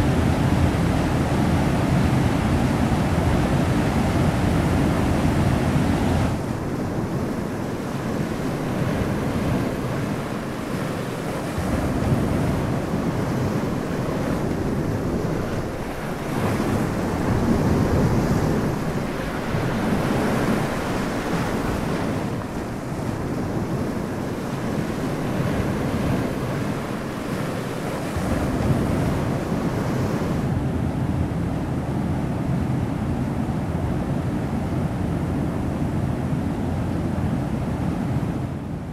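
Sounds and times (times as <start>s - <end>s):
waves washing onto shore: 0.0s - 38.9s.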